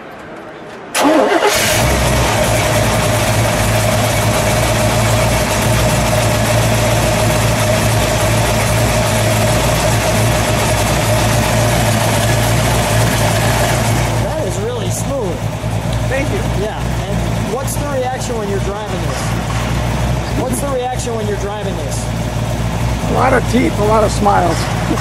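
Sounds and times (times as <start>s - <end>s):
car engine starting and idling: 0.9s - 25.0s.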